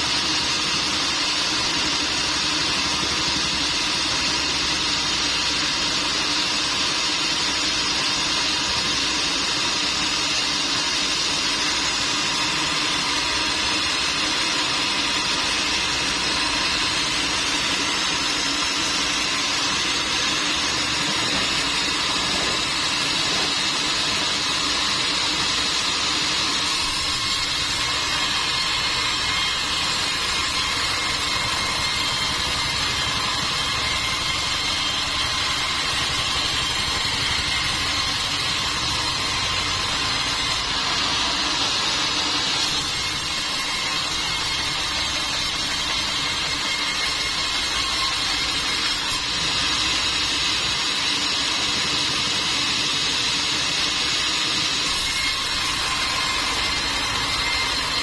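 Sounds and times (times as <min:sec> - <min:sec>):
sawmill machinery hum and whine: 0:00.0 - 0:58.0.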